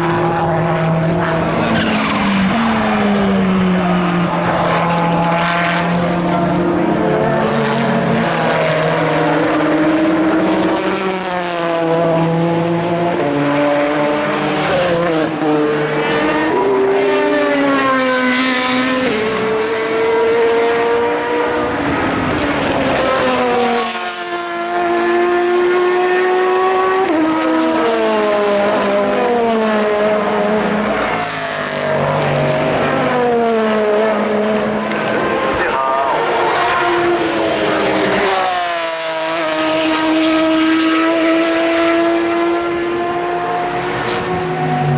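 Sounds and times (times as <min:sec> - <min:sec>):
race cars accelerating past: 0:00.0 - 0:44.9.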